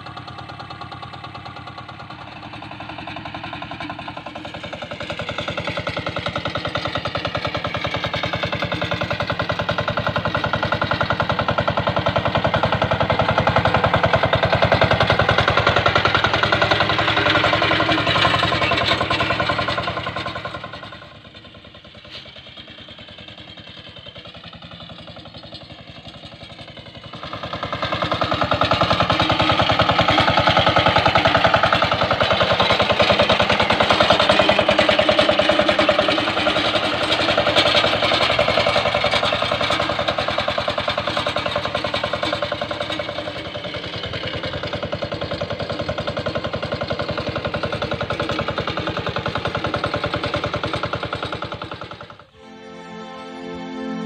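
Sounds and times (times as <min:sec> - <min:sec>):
diesel engine chugging: 0:00.0 - 0:54.0.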